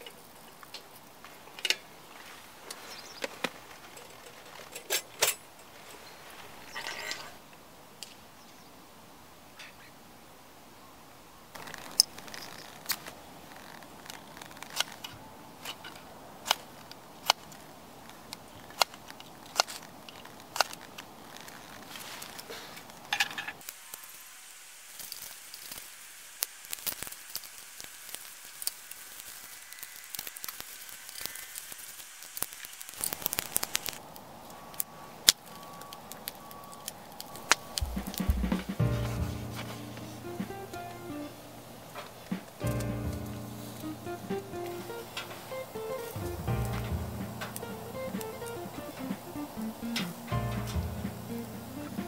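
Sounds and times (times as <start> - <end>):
fire crackling and popping: 0.0 - 8.2, 11.5 - 52.0.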